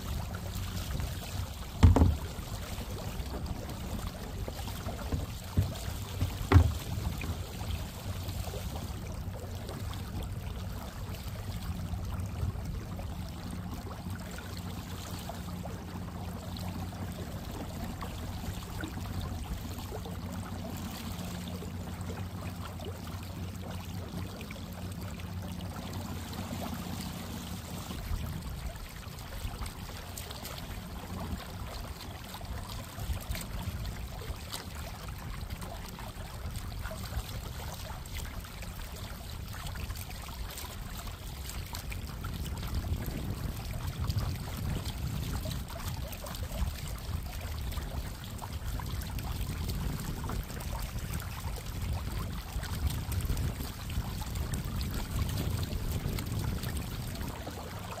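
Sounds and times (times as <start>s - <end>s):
water splashing along hull: 0.0s - 58.0s.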